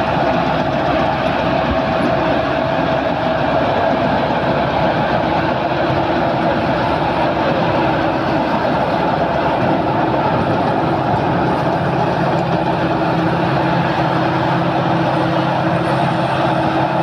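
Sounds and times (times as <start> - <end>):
harvester engine drone: 0.0 - 17.0
machinery clatter: 0.0 - 17.0.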